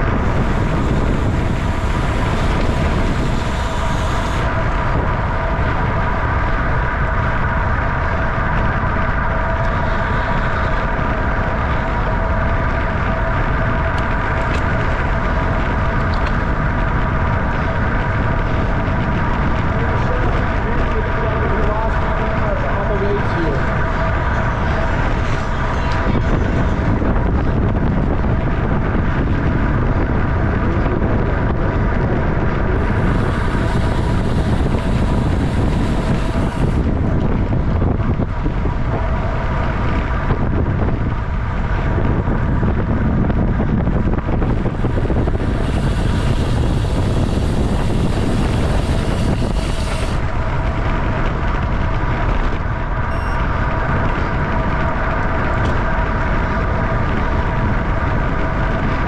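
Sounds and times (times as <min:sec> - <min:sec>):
road rumble: 0:00.0 - 0:59.0
wind rushing over microphone: 0:00.0 - 0:59.0.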